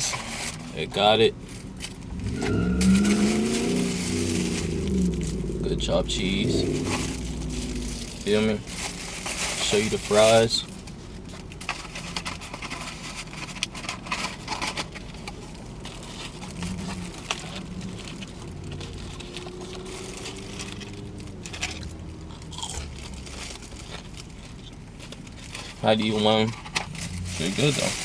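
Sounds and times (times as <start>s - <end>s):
low background hum: 0.0s - 28.0s
paper packaging rustling: 0.0s - 28.0s.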